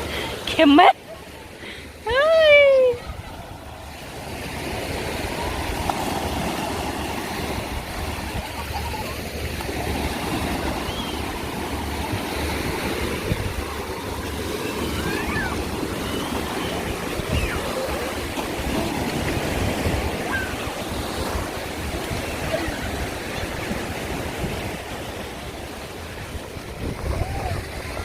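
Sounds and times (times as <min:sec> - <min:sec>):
sea surf on beach: 0:00.0 - 0:28.0
wind buffeting microphone: 0:02.4 - 0:28.0.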